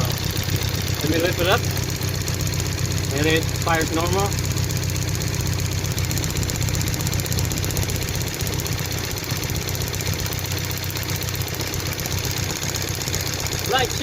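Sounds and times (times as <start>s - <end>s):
car engine idling with misfire: 0.0s - 14.0s.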